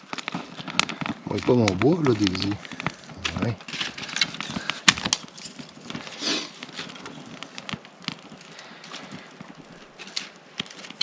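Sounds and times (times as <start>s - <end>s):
campfire wood crackling: 0.0s - 11.0s.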